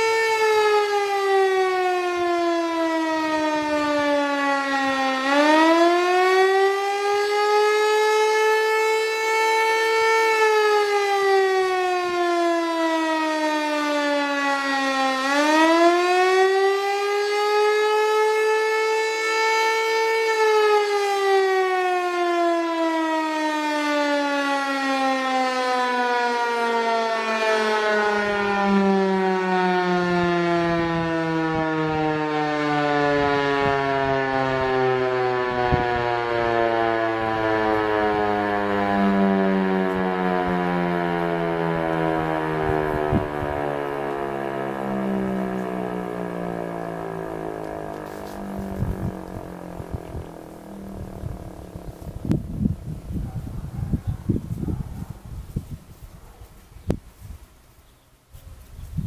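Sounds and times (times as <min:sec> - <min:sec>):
storm siren wailing: 0:00.0 - 0:57.4.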